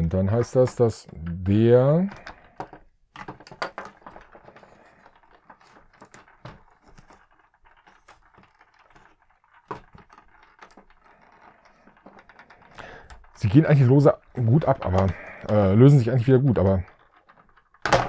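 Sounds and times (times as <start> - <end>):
plastic toy clicks and rattles: 0.0 - 18.0.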